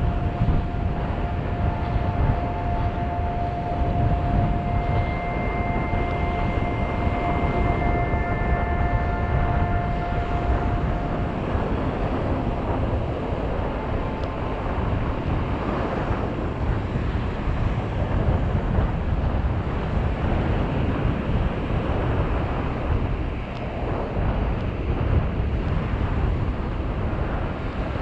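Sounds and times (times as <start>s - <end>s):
faint motor whine: 0.0s - 28.0s
surf on a beach: 0.0s - 28.0s
wind buffeting microphone: 0.0s - 28.0s.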